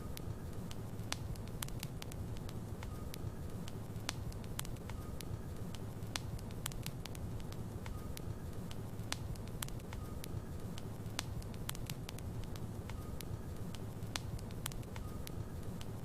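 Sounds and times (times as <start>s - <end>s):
logs crackling and popping: 0.0s - 16.0s
low rumble of fire: 0.0s - 16.0s.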